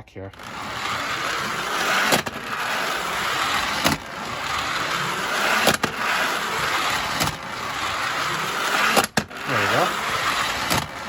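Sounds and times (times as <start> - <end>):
toy train motor whirring: 0.3 - 11.0.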